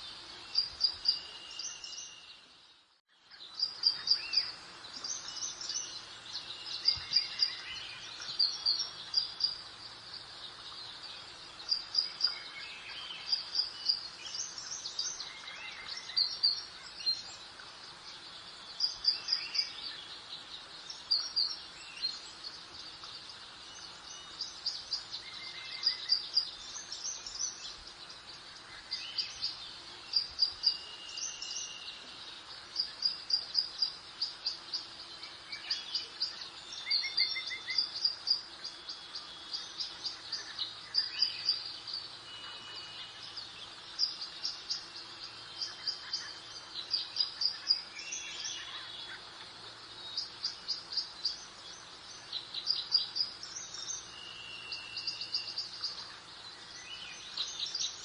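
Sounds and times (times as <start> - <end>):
birds chirping: 0.0 - 58.0
soft breeze hiss: 0.0 - 58.0.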